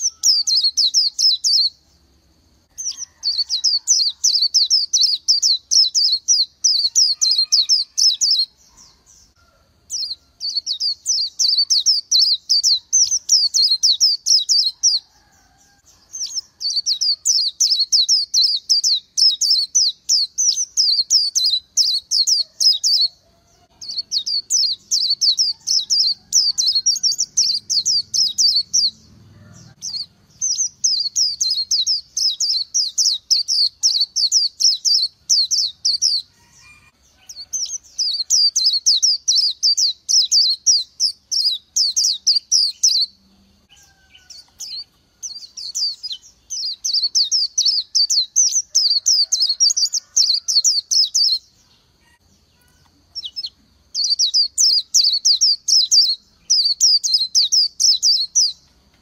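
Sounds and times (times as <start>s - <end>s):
bird twittering song: 0.0s - 59.0s.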